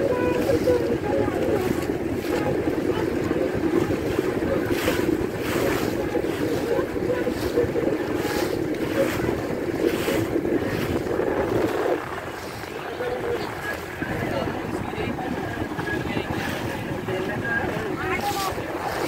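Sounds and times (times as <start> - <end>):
motorboat engine drone: 0.0 - 19.0
water slapping at hull: 0.0 - 19.0
wind buffeting microphone: 0.0 - 19.0.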